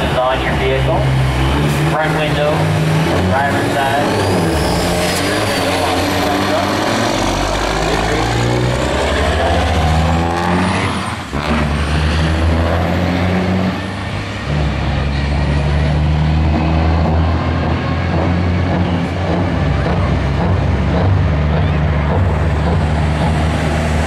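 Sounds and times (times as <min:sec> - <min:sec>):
diesel truck engines at full throttle: 0:00.0 - 0:24.0.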